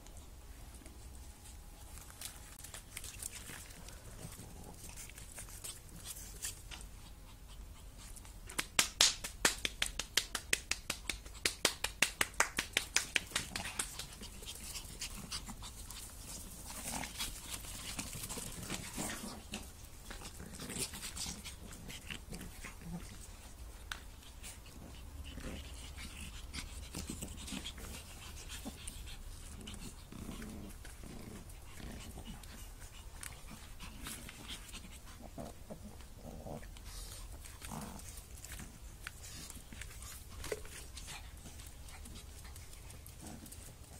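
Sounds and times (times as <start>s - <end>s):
puppies growling: 2.4s - 7.7s, 13.4s - 43.9s.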